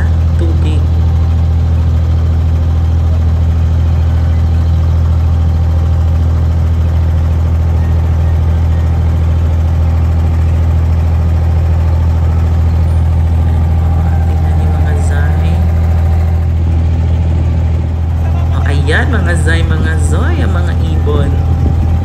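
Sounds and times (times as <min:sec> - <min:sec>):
boat diesel engine running: 0:00.0 - 0:22.0.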